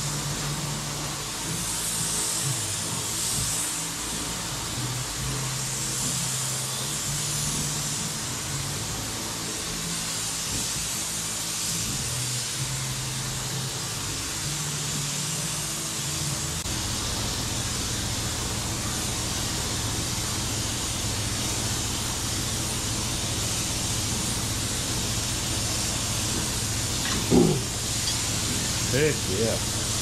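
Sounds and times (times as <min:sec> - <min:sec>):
spray gun hissing: 0:00.0 - 0:30.0.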